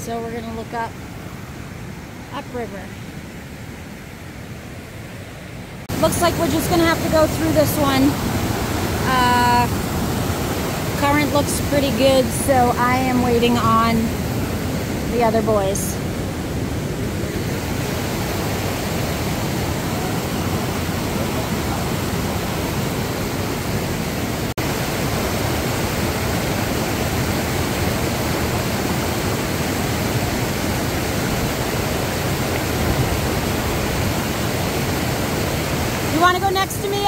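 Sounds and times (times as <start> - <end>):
creek rushing: 0.0 - 37.0.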